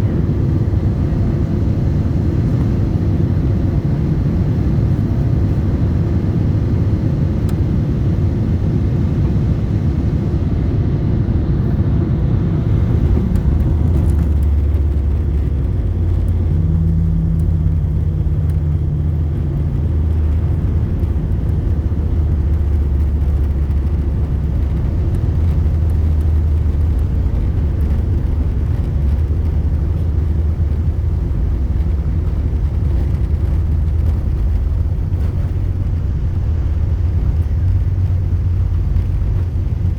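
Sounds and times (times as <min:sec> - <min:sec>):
airliner deep rumble: 0:00.0 - 0:39.9.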